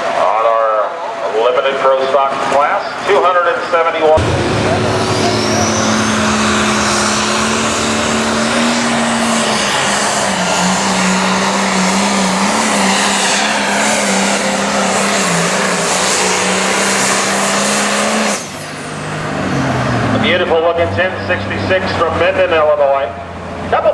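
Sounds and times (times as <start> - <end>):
diesel engine at full throttle: 0.0 - 23.9
high turbo whine: 2.1 - 23.9.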